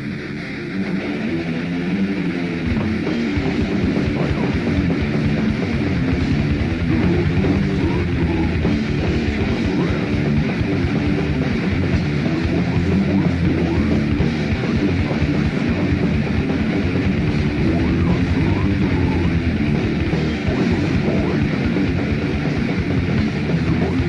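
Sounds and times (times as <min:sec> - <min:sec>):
bass: 0:00.0 - 0:24.0
distorted electric guitars: 0:00.0 - 0:24.0.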